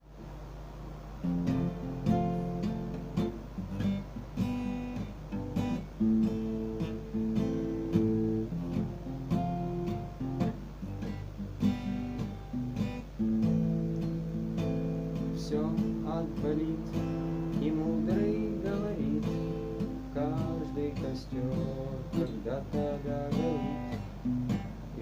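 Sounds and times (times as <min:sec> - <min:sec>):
acoustic guitar strummed: 0:01.2 - 0:25.0.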